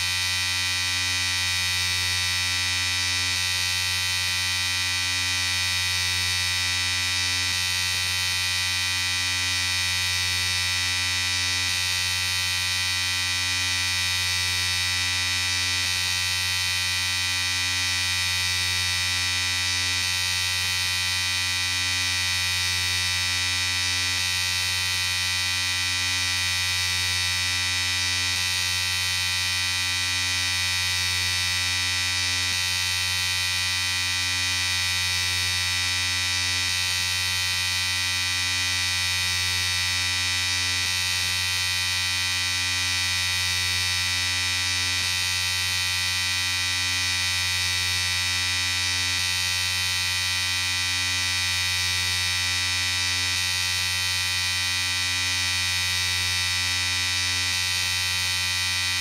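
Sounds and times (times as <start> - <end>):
electric shaver buzzing: 0.0 - 59.0.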